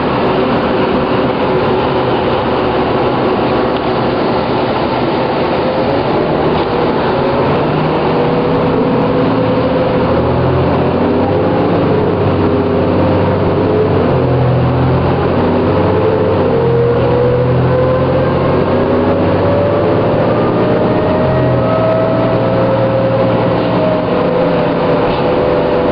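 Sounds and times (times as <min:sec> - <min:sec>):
bus diesel engine droning: 0:00.0 - 0:25.9.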